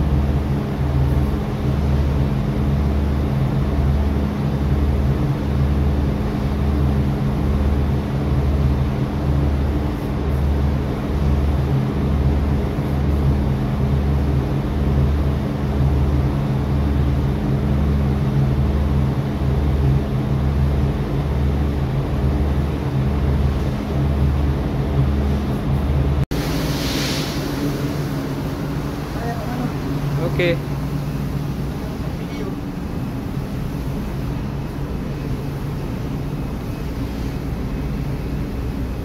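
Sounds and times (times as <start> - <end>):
ship engines droning: 0.0 - 39.0.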